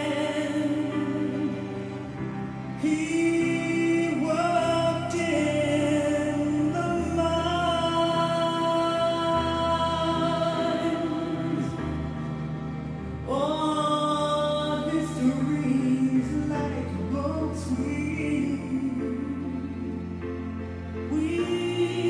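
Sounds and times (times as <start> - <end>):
slow music with held notes: 0.0 - 22.0.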